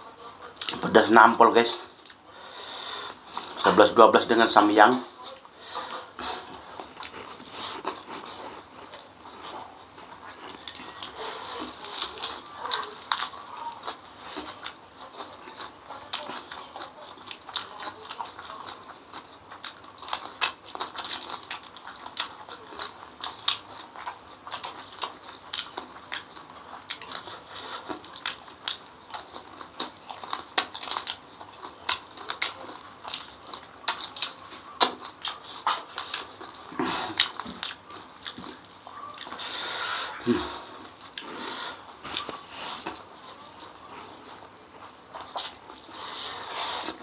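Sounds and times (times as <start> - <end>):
person chewing and smacking: 0.4 - 2.2, 3.0 - 47.0.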